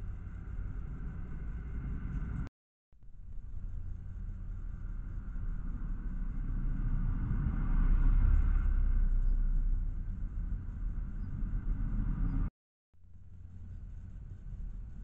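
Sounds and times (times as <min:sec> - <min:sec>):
low rumbling noise: 0:00.0 - 0:12.5.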